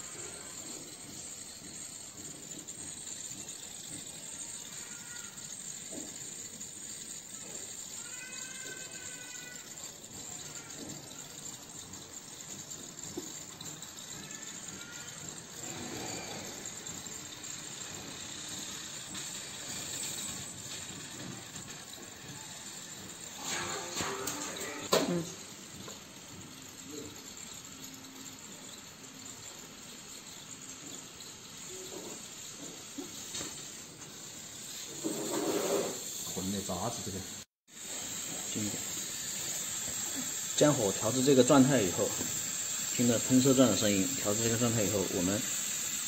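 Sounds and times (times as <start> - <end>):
burner flame jet hissing: 0.0 - 46.0.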